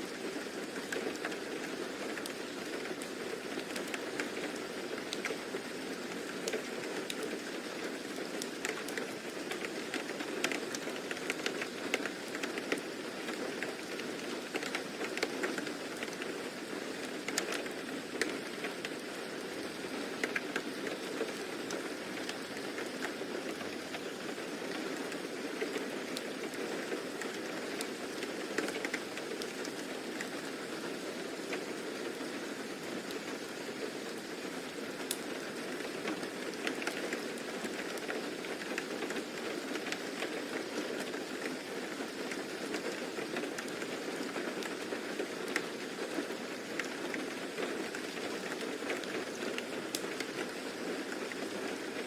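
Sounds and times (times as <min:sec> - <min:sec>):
rain pattering on hard surface: 0:00.0 - 0:52.0.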